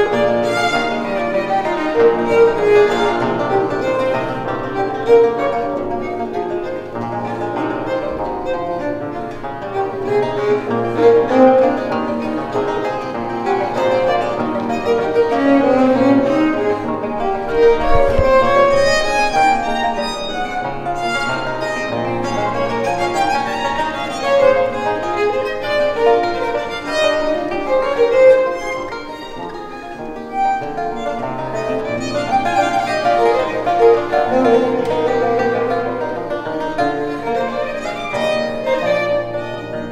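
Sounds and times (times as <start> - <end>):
bowed violin melody: 0.0 - 39.9
plucked lute: 0.0 - 39.9.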